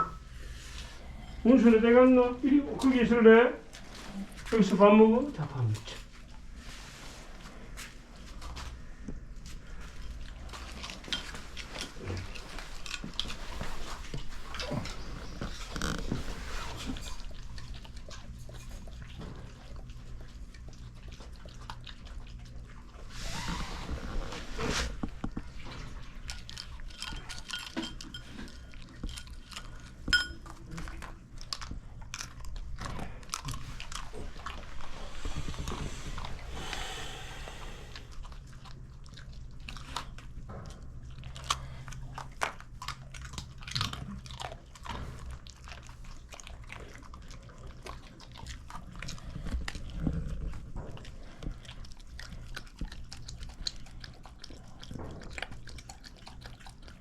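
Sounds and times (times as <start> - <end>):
dogs chewing and crunching food: 0.0 - 57.0.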